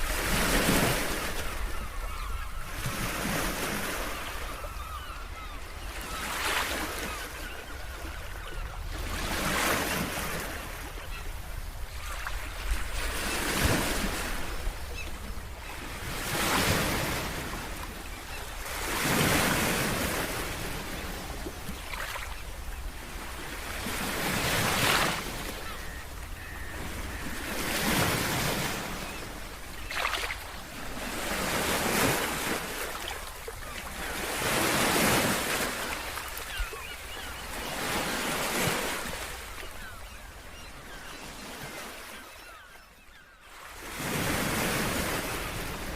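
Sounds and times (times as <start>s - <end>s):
ocean waves breaking on shore: 0.0s - 45.9s.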